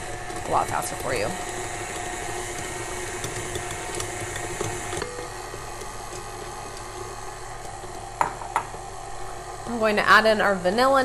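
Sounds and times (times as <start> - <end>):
stand mixer motor hum: 0.0 - 11.0.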